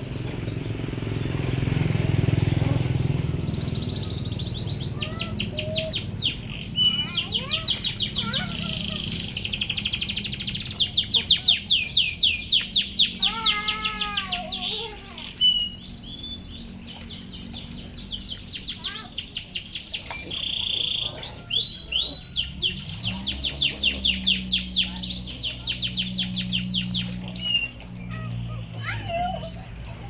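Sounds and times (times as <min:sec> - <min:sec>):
canary singing trills: 0:00.0 - 0:29.8.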